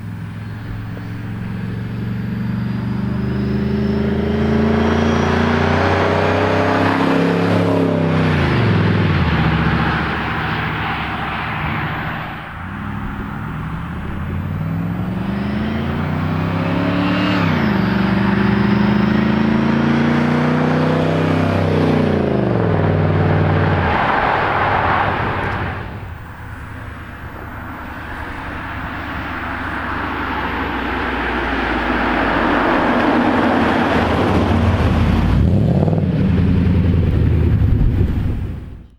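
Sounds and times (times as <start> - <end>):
car engine accelerating: 0.0 - 38.9
road noise: 0.0 - 38.9.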